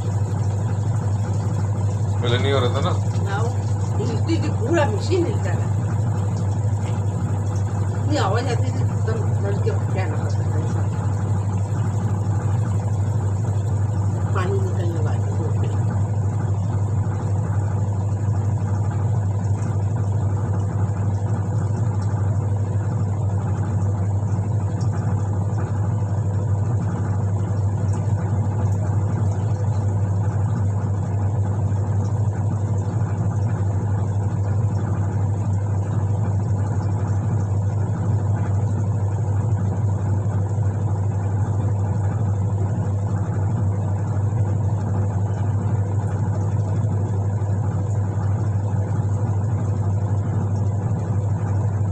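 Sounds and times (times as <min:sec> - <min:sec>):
washing machine motor humming: 0:00.0 - 0:51.9.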